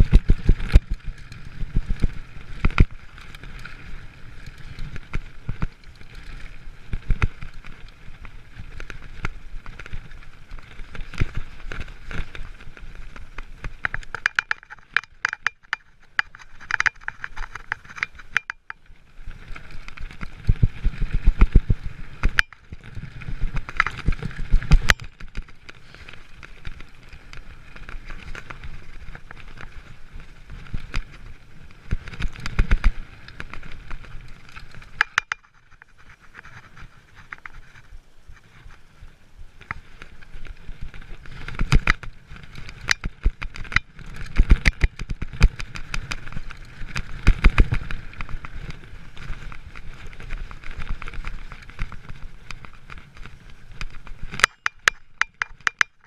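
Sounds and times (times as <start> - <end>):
bike rattling and knocking: 0.0 - 37.8, 39.6 - 56.0
bike tyres rumbling over gravel: 0.0 - 56.0.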